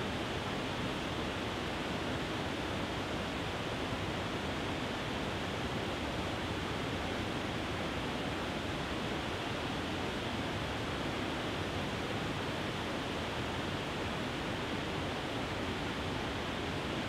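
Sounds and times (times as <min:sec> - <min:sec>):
small waterfall rushing: 0:00.1 - 0:17.0.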